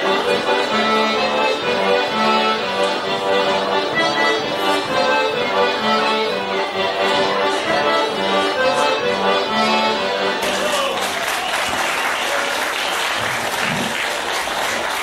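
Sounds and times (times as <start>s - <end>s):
accordion playing dance tune: 0.0s - 15.0s.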